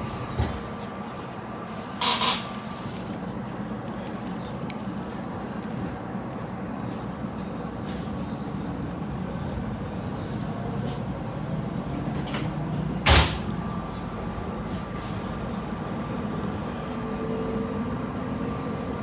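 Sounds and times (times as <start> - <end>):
train carriage rumble: 0.0 - 19.0.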